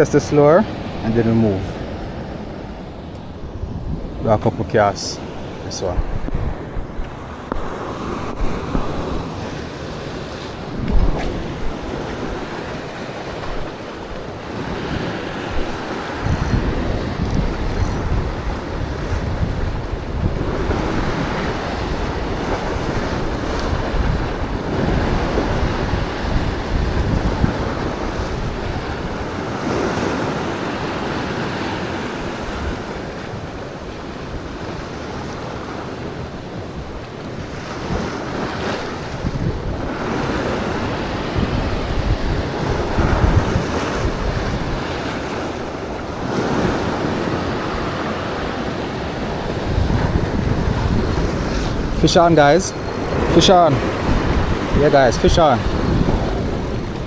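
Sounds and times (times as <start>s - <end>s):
sea waves breaking: 0.0s - 57.0s
wind buffeting microphone: 0.0s - 57.0s.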